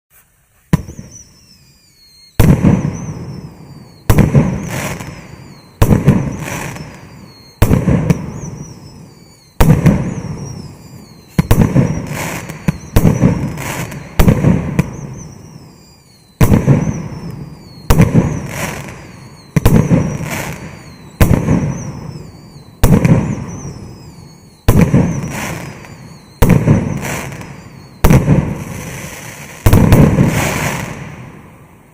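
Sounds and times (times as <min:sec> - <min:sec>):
firework bangs: 0:00.6 - 0:31.8.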